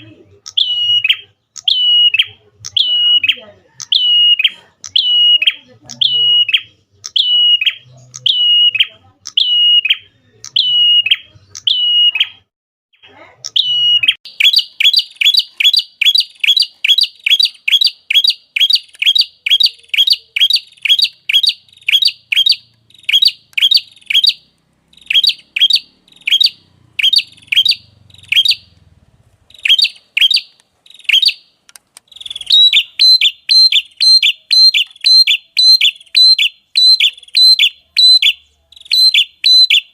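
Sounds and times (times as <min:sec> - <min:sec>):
bird chirping sharply: 0:00.0 - 0:39.9.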